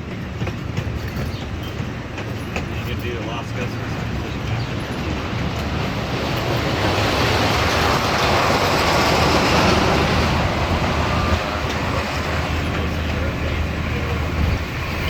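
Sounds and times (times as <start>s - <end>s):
ride train rumbling on track: 0.0s - 15.0s.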